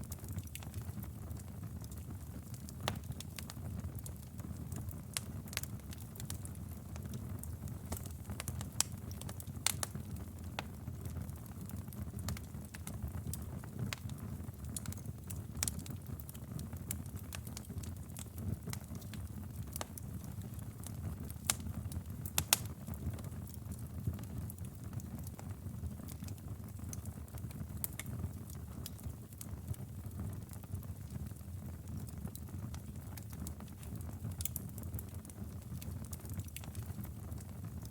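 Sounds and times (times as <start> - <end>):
fire crackling and popping: 0.0 - 37.9
low rumble of flames: 0.0 - 37.9.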